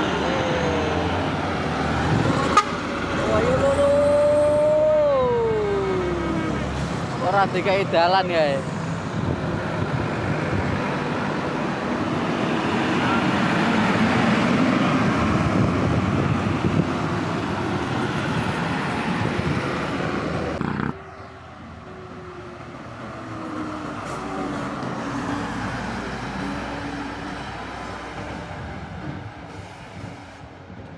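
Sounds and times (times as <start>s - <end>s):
heavy truck passing: 0.0s - 30.9s
road traffic noise: 0.0s - 30.9s.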